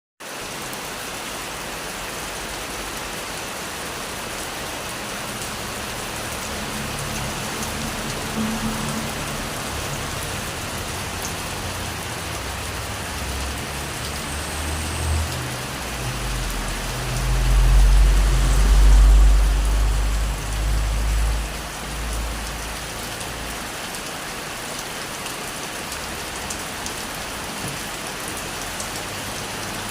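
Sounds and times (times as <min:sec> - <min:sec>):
rain falling: 0:00.2 - 0:29.9.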